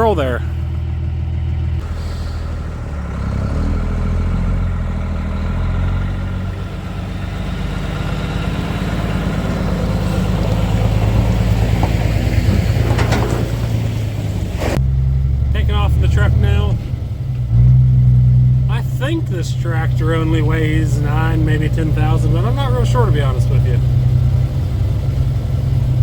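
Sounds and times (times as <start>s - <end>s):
pickup truck engine towing: 0.0s - 26.0s.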